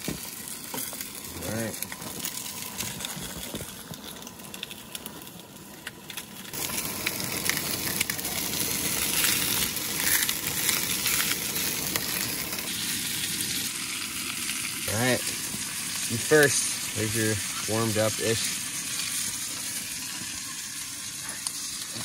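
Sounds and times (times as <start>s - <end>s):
sausages sizzling in frying pan: 0.0s - 22.0s.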